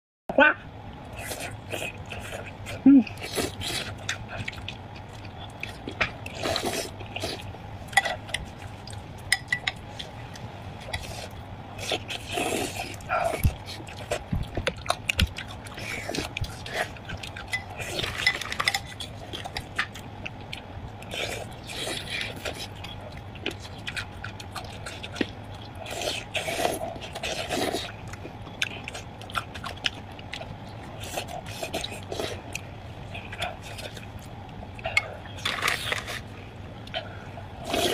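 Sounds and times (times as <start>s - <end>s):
wet chewing and slurping: 1.0s - 37.9s.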